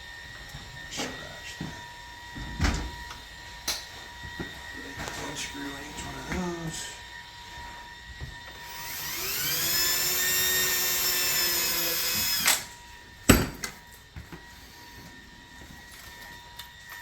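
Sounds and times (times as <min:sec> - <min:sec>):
power drill whining: 0:00.3 - 0:17.0.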